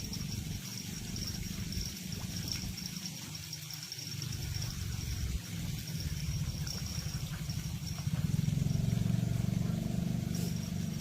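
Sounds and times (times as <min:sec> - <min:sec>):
small engine humming: 0:00.0 - 0:11.0.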